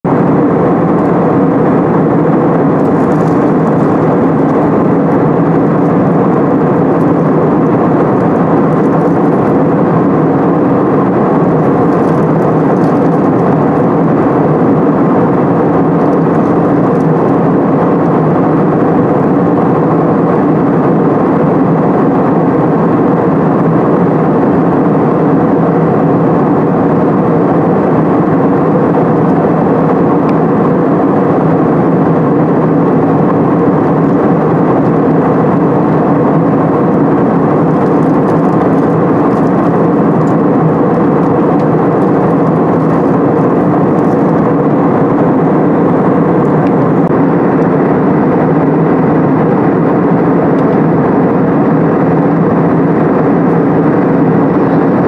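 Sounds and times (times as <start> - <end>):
jet cabin engine rush: 0.0 - 55.0.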